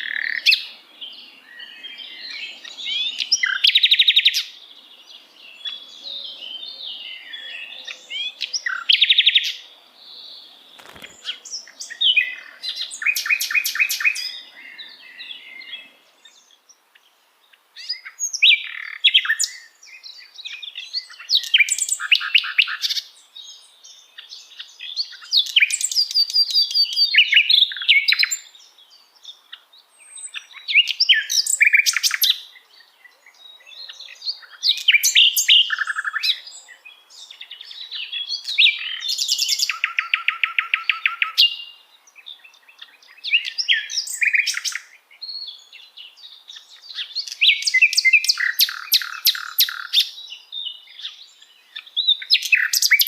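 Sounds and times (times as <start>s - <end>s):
nightingale singing: 0.0s - 53.0s.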